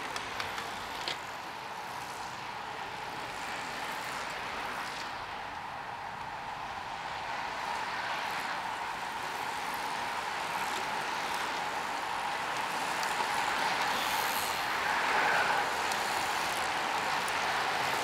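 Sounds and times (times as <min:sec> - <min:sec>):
bicycle tyres whirring on asphalt: 0:00.0 - 0:18.0.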